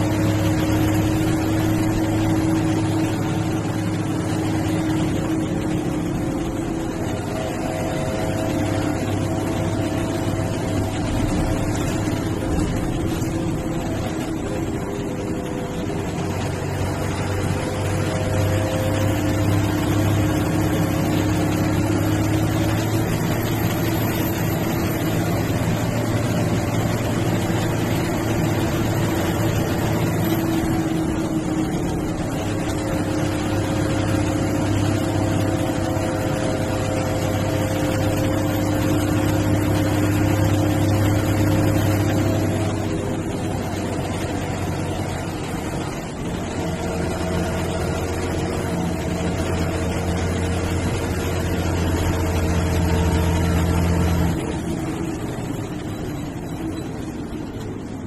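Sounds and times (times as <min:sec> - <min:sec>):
bus engine running: 0:00.0 - 0:58.0
road noise: 0:00.0 - 0:58.0.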